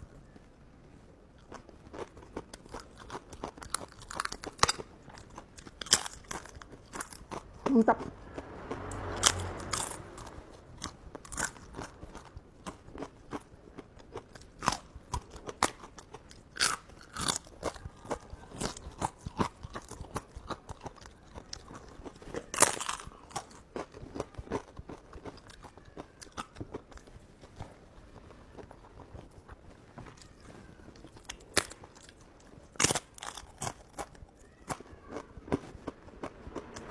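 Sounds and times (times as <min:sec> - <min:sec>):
chewing and biting food: 0:01.4 - 0:08.1, 0:10.8 - 0:36.9.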